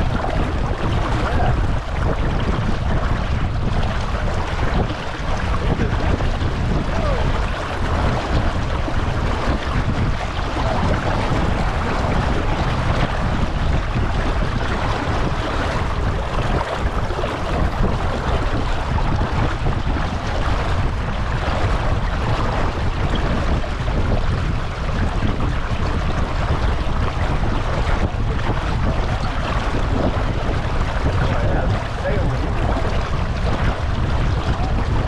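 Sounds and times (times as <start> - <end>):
water washing against hull: 0.0 - 35.0
wind buffeting microphone: 0.0 - 35.0.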